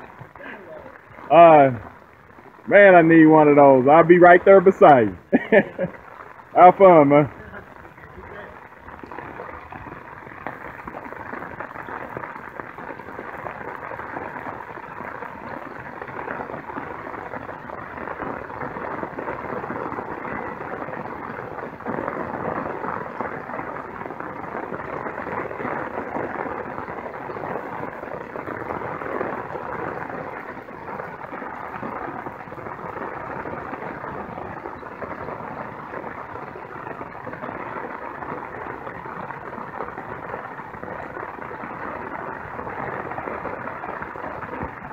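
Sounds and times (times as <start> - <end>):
water pattering and splashing: 0.0 - 44.9.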